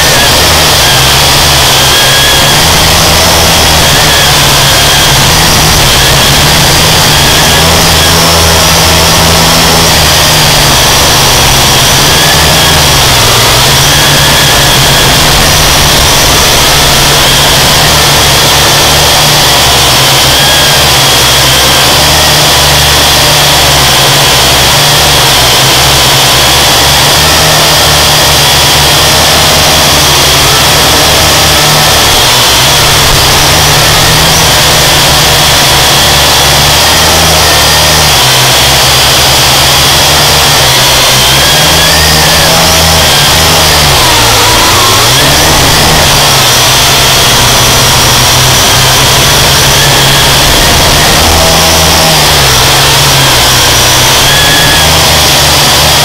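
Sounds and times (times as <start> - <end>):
wind noise on microphone: 0.0 - 55.3
drone propellers whining: 0.0 - 56.0.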